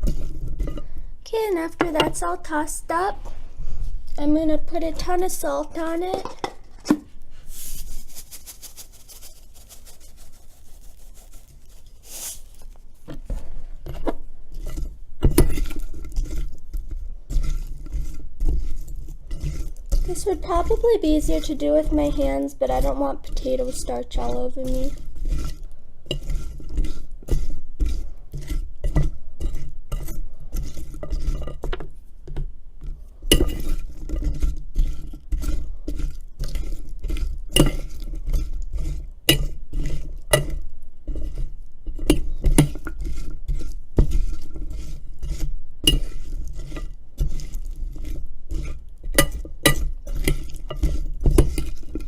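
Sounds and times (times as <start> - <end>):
utensil scraping against bowl: 0.0 - 3.2, 4.1 - 52.0.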